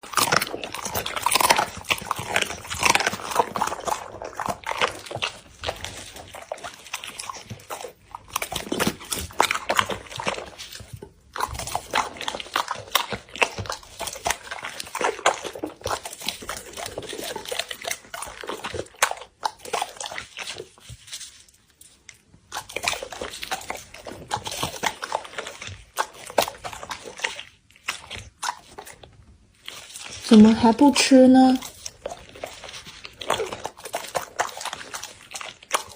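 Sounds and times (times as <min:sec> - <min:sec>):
dog crunching and chewing: 0:00.0 - 0:35.9.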